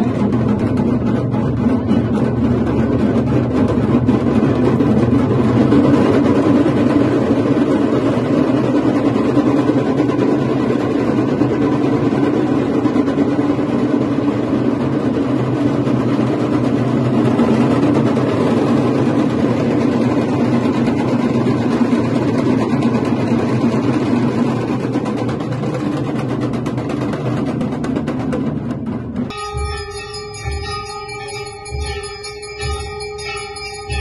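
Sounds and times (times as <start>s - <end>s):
dhol drums pounding: 0.0s - 34.0s.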